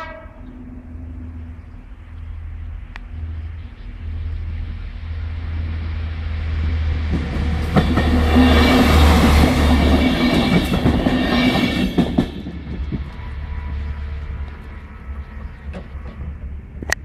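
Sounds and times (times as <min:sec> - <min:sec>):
low rumble: 0:00.0 - 0:17.0
steady engine tone: 0:00.0 - 0:17.0
train wheels rushing on rail: 0:00.0 - 0:17.0.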